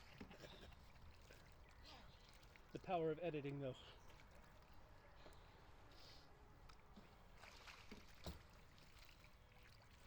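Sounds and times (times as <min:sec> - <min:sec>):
kayak paddling water: 0:00.0 - 0:03.0, 0:03.8 - 0:10.0.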